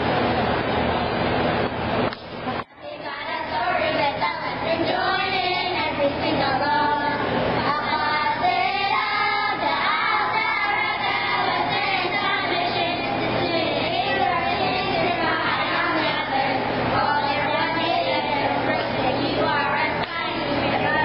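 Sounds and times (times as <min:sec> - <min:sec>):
girls choir singing: 0:02.7 - 0:21.0.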